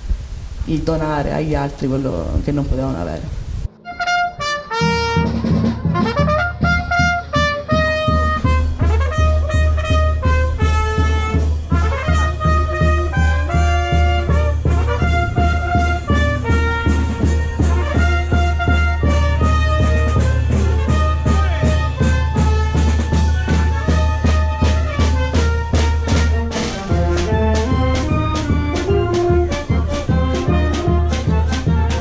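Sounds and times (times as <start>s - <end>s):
trumpets playing held notes: 3.7s - 32.0s
brass band playing a march: 3.8s - 32.0s.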